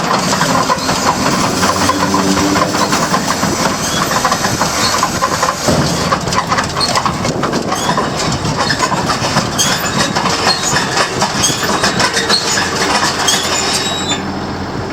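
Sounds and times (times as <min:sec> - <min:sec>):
round baler clattering: 0:00.0 - 0:14.9.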